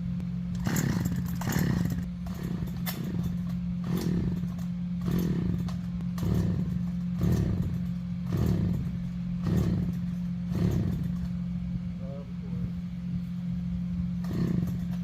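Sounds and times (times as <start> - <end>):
engine running with surges: 0.0 - 15.0.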